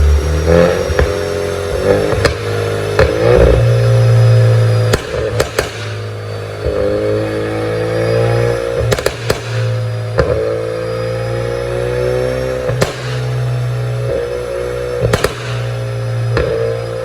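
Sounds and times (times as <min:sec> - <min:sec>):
sharp exhaust pops: 0:00.0 - 0:07.6, 0:08.4 - 0:17.0
car engine revving: 0:00.0 - 0:17.0.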